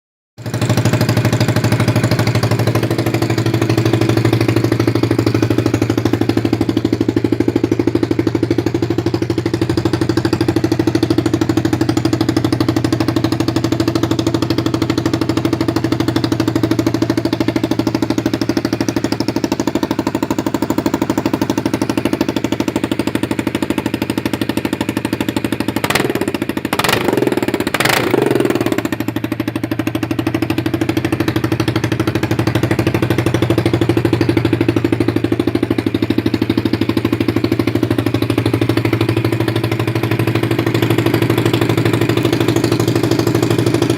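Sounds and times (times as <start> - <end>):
motorcycle engine idling: 0.4 - 43.9.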